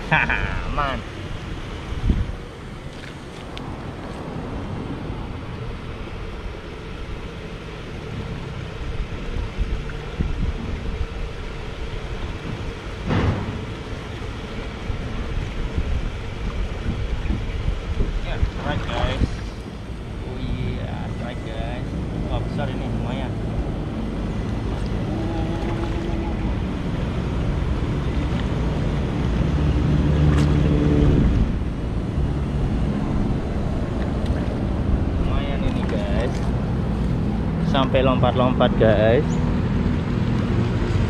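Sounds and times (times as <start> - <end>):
wind buffeting microphone: 1.2 - 7.3, 8.8 - 41.0.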